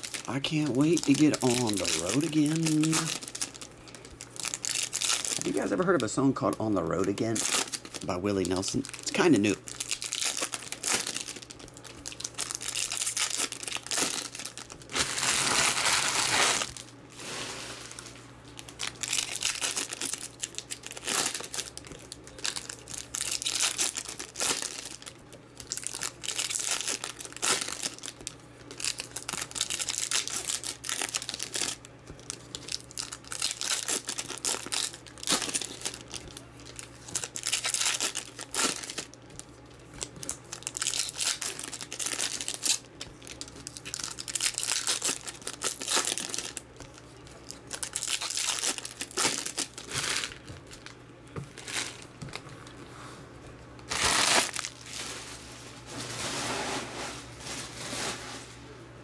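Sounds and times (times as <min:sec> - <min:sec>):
foil wrappers crinkling and tearing: 0:00.0 - 0:52.8, 0:53.8 - 0:58.5.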